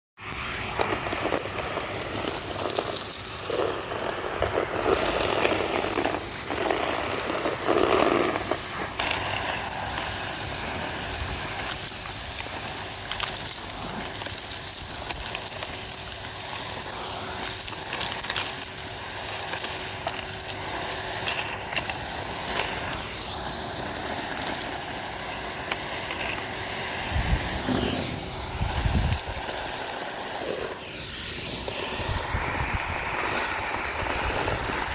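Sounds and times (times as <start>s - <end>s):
grit crackling in vacuum: 0.2s - 34.9s
vacuum cleaner running: 0.2s - 34.9s.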